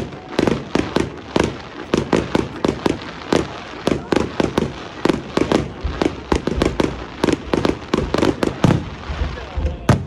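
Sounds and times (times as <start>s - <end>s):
fireworks banging: 0.0s - 10.0s.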